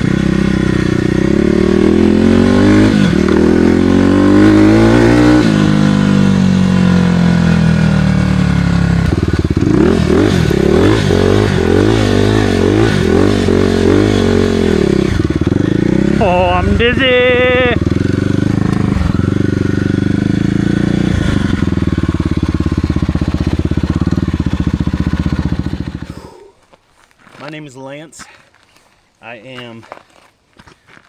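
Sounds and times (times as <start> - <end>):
dirt bike engine revving: 0.0 - 26.4.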